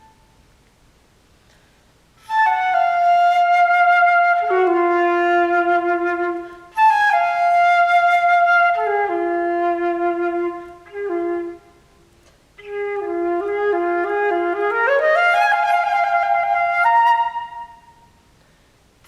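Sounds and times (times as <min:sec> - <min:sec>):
flute playing slow notes: 0:00.0 - 0:00.4, 0:02.2 - 0:18.2.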